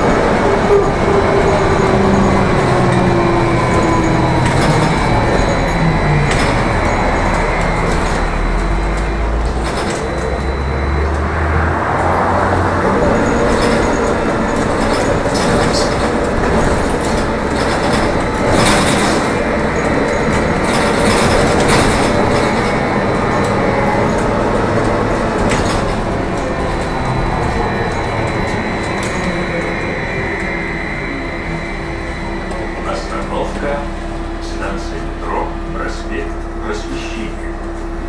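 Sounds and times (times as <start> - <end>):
trolleybus running noise: 0.0 - 38.0.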